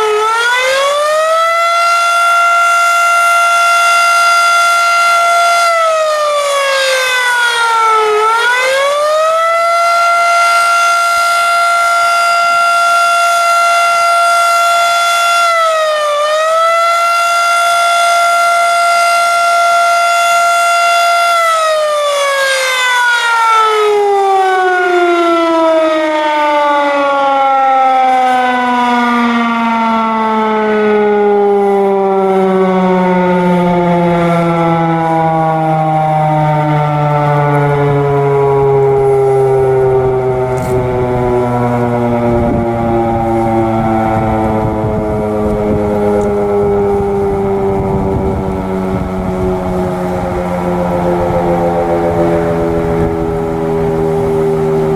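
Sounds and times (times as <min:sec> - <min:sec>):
electromechanical warning siren: 0:00.0 - 0:54.9.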